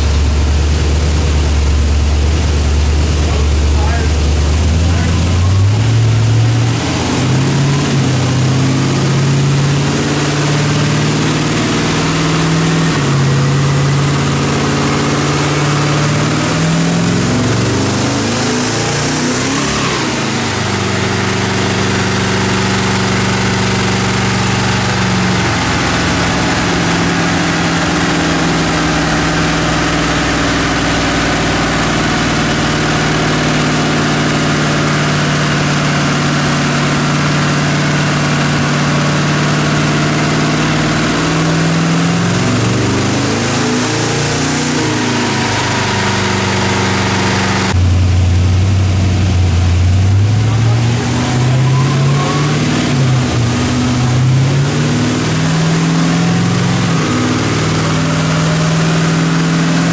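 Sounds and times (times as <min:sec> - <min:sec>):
car engine running under load: 0:00.0 - 0:59.9.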